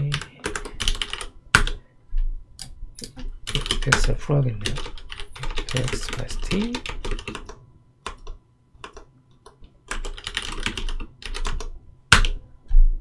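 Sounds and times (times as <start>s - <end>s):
computer keyboard typing: 0.0s - 1.8s, 2.6s - 12.4s.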